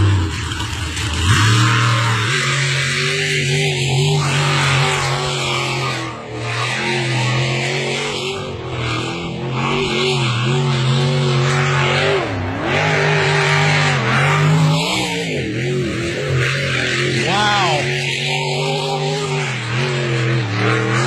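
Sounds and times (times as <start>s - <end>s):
racing engine at high revs: 0.0s - 21.0s.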